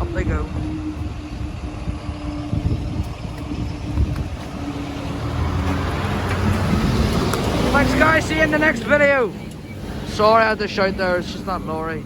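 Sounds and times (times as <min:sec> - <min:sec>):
lorry engine rumbling: 0:00.0 - 0:12.0
road traffic: 0:00.0 - 0:12.0.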